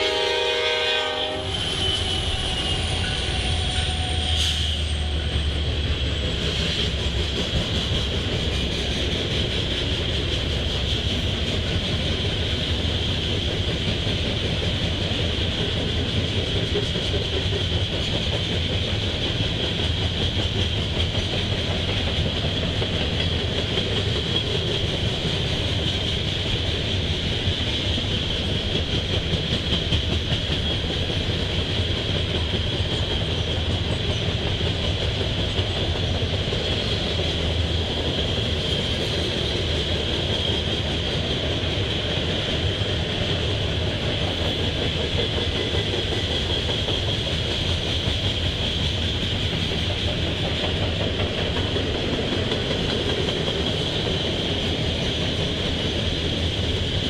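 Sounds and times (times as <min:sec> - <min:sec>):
freight cars rumbling on rails: 0:00.0 - 0:57.0.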